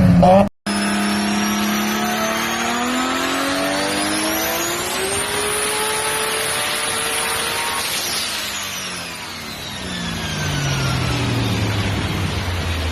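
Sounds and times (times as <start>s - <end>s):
high whine: 0.0s - 12.9s
performance car engine under load: 0.0s - 12.9s.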